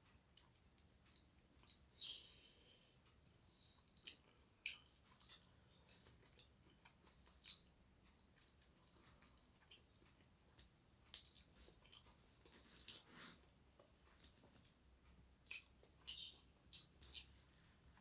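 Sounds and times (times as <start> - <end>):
person chewing: 0.4 - 1.9, 3.8 - 14.8, 15.4 - 18.0.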